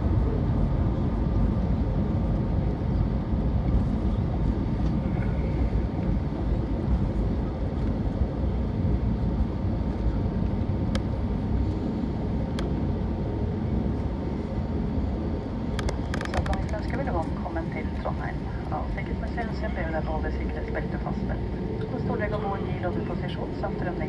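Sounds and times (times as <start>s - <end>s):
aircraft cabin rumble: 0.0s - 24.0s.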